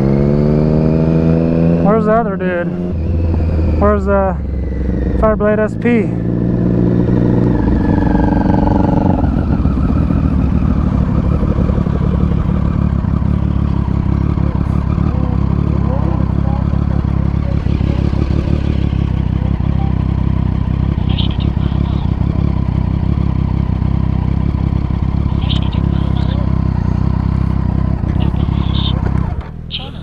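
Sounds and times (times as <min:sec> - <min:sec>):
motorcycle engine hum: 0:00.0 - 0:30.0.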